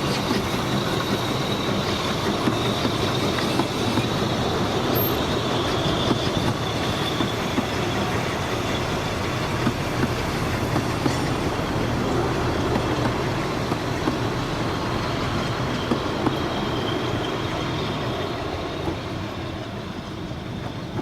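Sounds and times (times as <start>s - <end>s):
faint high wheel squeal: 0.0s - 21.0s
train rolling on rails: 0.0s - 21.0s.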